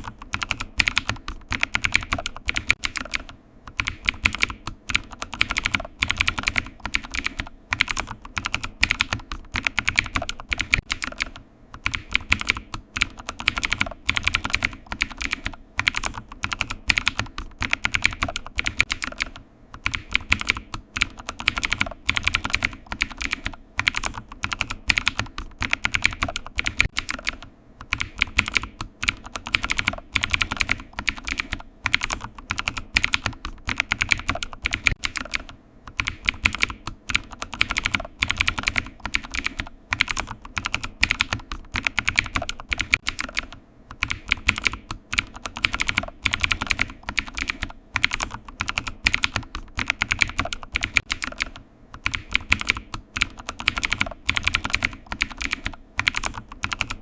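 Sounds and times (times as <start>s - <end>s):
keyboard typing: 0.0s - 57.0s.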